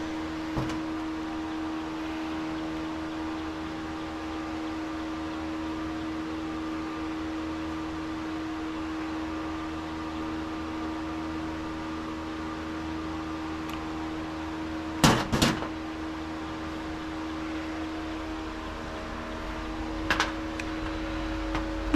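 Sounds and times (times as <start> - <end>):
electric fan humming: 0.0 - 21.9.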